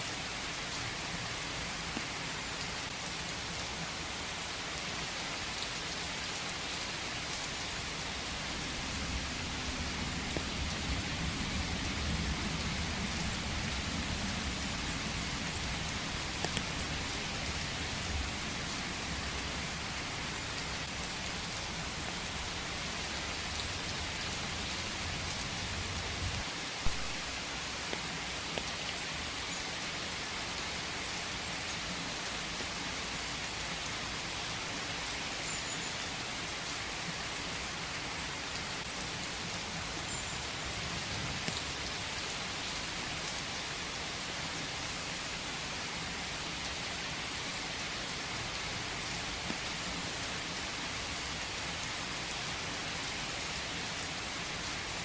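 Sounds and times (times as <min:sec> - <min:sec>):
raindrops striking close by: 0:00.0 - 0:55.0
steady rain hiss: 0:00.0 - 0:55.0.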